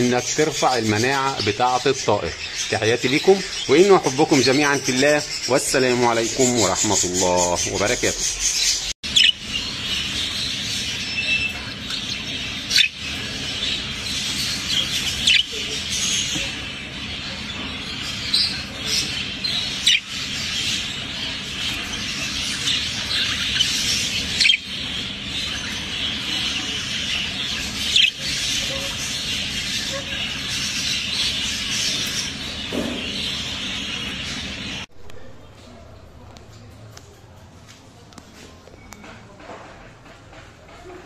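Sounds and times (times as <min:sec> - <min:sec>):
budgerigar warbling and chattering: 0:00.0 - 0:34.8.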